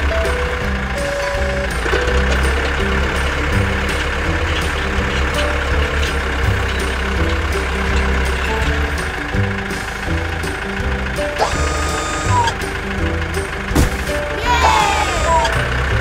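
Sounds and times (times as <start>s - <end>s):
cartoon tractor engine rumble: 0.0s - 16.0s
light background music: 0.0s - 16.0s.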